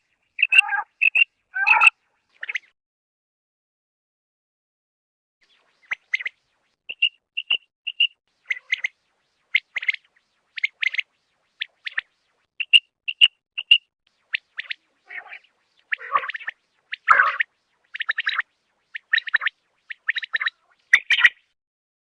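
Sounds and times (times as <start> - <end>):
quail calling: 0.4 - 2.7, 5.8 - 21.5.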